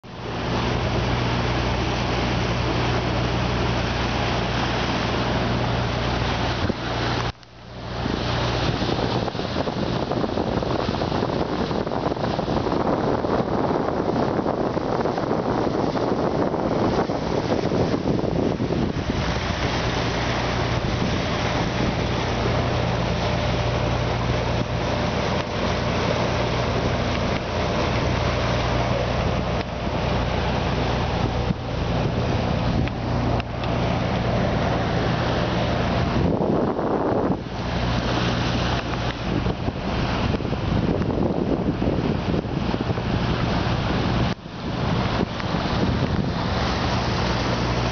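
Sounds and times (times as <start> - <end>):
boat engine drone: 0.0 - 47.9
hiss of wind and water: 0.0 - 47.9.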